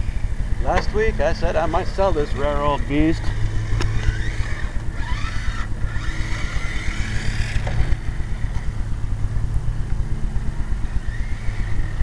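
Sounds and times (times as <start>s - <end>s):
low pulsing rumble: 0.0s - 12.0s
rc car motor whining: 0.0s - 12.0s.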